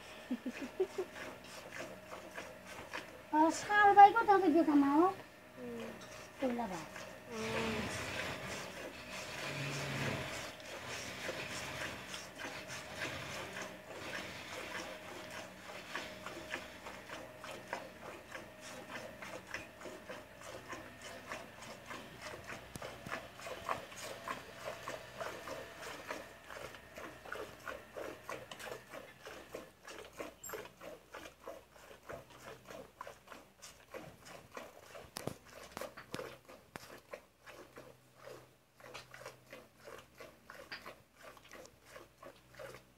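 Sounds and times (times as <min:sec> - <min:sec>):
milk squirting into pot: 0:06.0 - 0:42.9.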